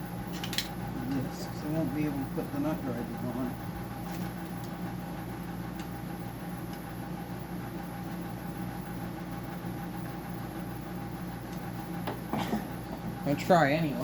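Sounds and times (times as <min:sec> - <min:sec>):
dehumidifier humming: 0:00.0 - 0:14.0.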